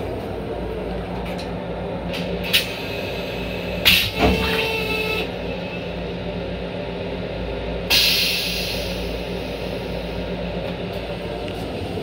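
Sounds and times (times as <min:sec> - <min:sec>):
electric railcar hum: 0:00.0 - 0:12.0.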